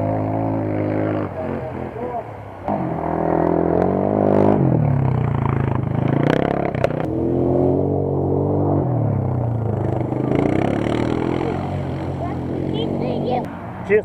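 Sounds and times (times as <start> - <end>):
engine revving: 0.0 - 14.0.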